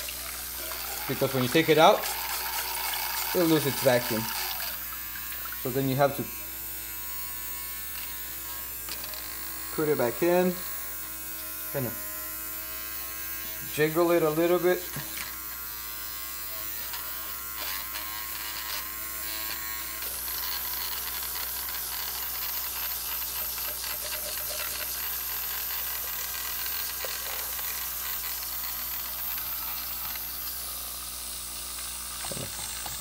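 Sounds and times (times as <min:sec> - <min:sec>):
small motor buzzing: 0:00.0 - 0:33.0.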